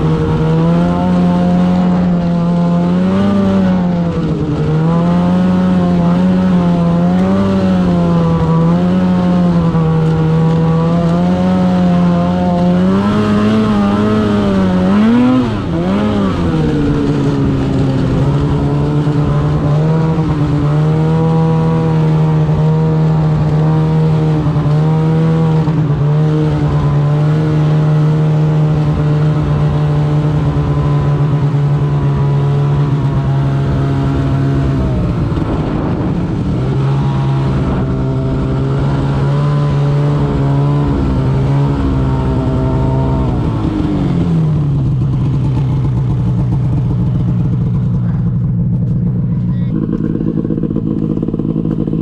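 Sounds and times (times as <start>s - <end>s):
snowmobile engine running: 0.0s - 52.0s.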